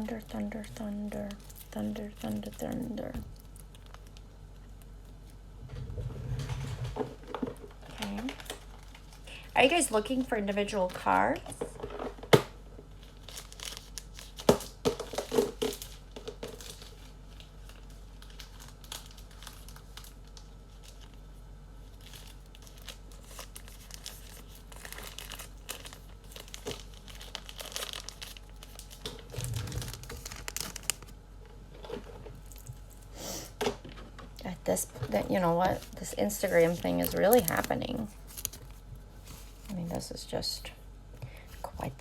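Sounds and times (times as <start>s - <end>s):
packaging crinkling and rustling: 0.0s - 33.1s, 34.8s - 40.3s.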